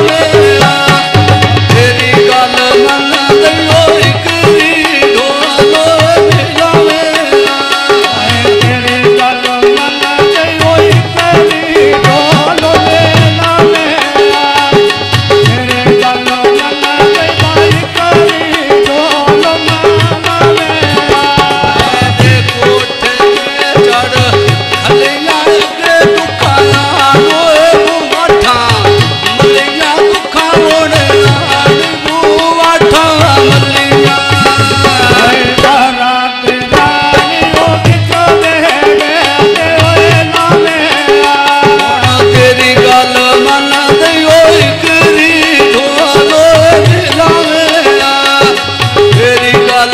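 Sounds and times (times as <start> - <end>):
hand drum rhythm: 0.0 - 49.9
harmonium melody: 0.0 - 49.9
man singing: 0.0 - 49.9.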